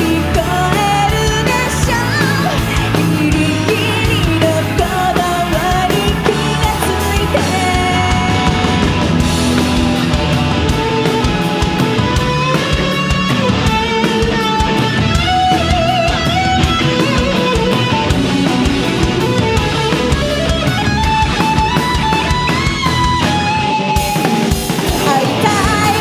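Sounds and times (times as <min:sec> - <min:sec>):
electric guitar lead line: 0:00.0 - 0:26.0
steady drum beat: 0:00.0 - 0:26.0.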